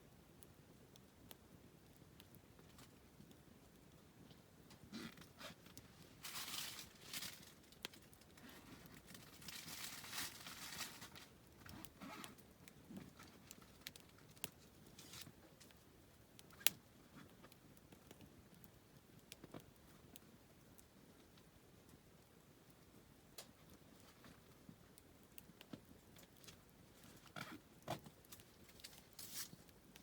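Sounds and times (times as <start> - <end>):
campfire crackling: 0.0 - 30.0
soft hissing of fire: 0.0 - 30.0.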